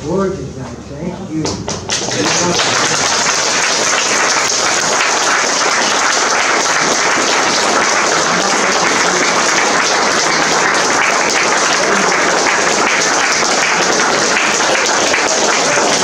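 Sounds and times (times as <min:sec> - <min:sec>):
audience applauding: 0:01.7 - 0:16.0.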